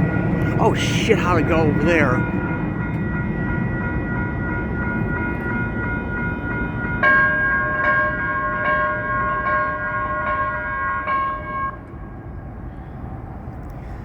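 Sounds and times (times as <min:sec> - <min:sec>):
pitched warning bell: 0:00.0 - 0:11.9
light rail train rumble: 0:00.0 - 0:14.0.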